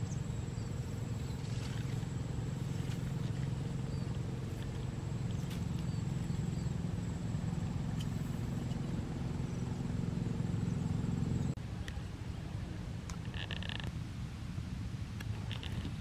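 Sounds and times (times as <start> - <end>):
low mechanical hum: 0.0 - 16.0
lower hum: 0.0 - 16.0.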